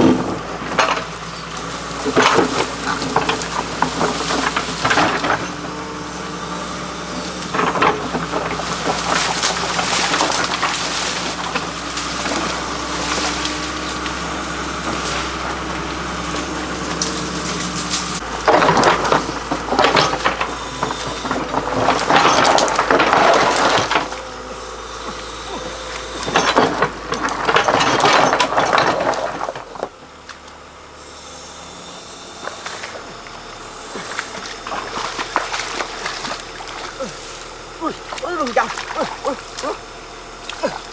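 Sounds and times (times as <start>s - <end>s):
excavator engine humming: 0.0s - 40.9s.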